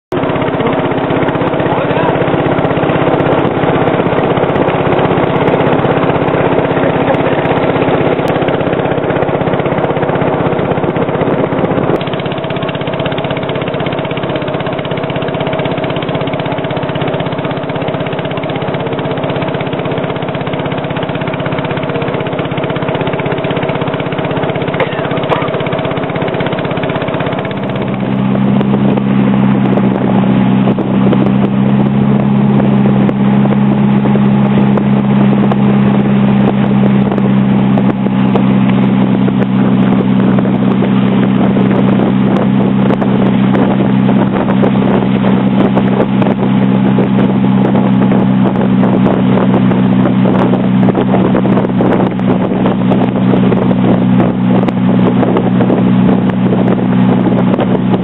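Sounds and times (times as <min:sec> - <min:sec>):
boat motor low drone: 0:00.1 - 0:58.0.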